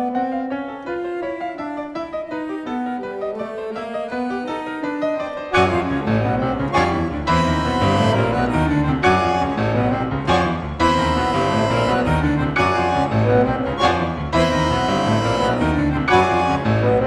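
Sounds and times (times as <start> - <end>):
piano single notes: 0.0 - 17.0.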